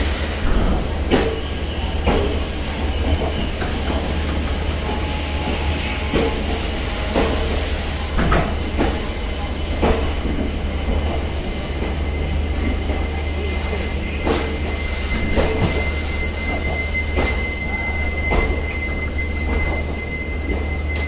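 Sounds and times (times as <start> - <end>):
train coaches rumbling: 0.0 - 21.0.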